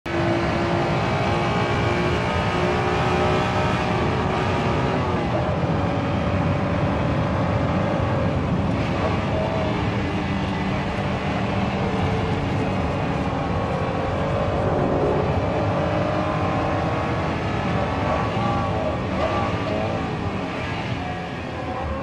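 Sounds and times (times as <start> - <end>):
car engine running hard: 0.1 - 22.0
road and wind noise: 0.1 - 22.0.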